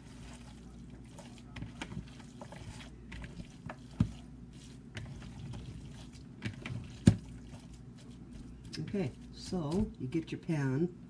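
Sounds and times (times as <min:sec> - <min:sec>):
wet squelching of kneaded meat: 0:00.0 - 0:10.0.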